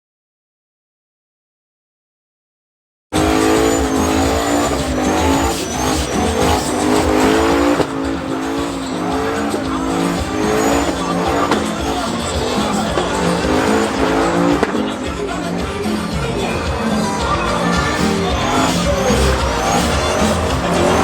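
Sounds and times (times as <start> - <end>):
tires squealing: 3.2 - 21.0
truck engine revving high: 3.2 - 21.0.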